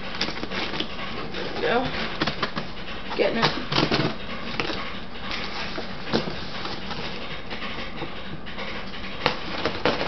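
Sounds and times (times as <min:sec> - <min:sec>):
washing machine running: 0:00.0 - 0:10.0.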